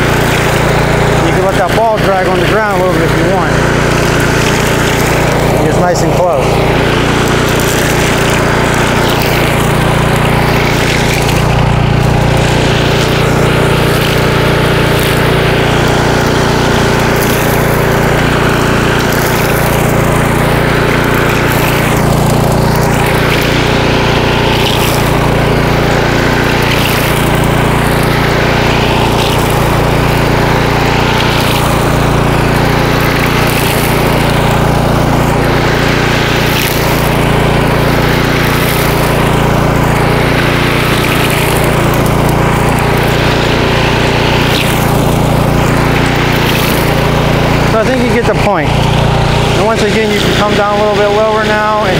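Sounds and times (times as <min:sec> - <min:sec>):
mower engine running under load: 0:00.0 - 0:51.9
trimmer line cutting weeds: 0:00.0 - 0:51.9.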